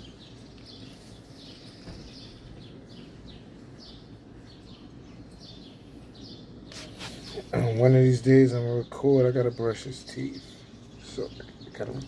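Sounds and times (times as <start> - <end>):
low steady background noise: 0.0 - 12.0
small birds chirping: 0.0 - 12.0.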